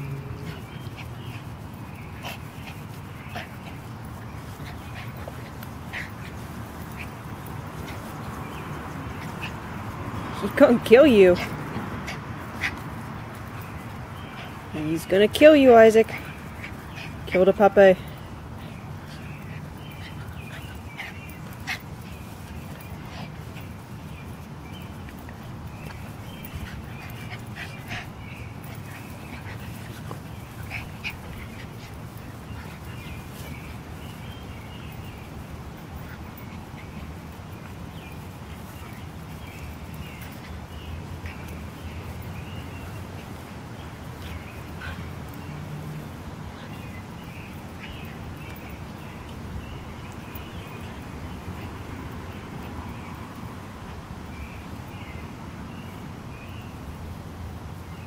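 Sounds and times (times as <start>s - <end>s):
puppies yipping and grunting: 0.0s - 10.4s, 15.9s - 52.2s
low background noise: 0.0s - 58.0s.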